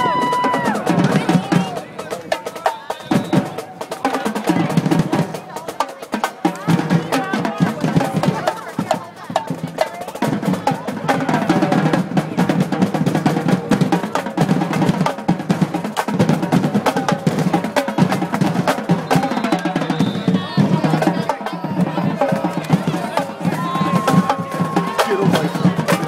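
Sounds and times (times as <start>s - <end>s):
crowd chatter: 0.0s - 26.0s
drum cadence: 0.0s - 26.0s.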